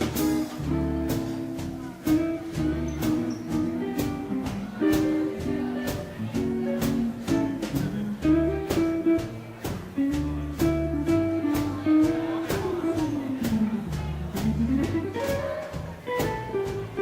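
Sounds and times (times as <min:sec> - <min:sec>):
swing band playing slow ballad: 0:00.0 - 0:17.0.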